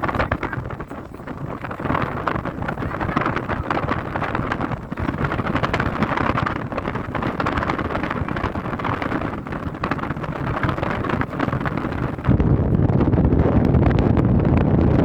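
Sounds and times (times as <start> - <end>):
fireworks crackling and hissing: 0.0 - 12.4.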